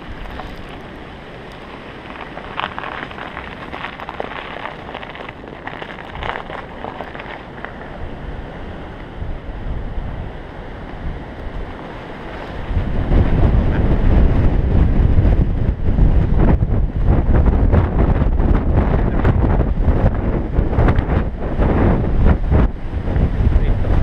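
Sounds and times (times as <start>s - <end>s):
deep rumble: 0.0s - 8.5s, 9.2s - 24.0s
bike tyres crunching snow: 0.0s - 24.0s
wind buffeting microphone: 0.0s - 24.0s.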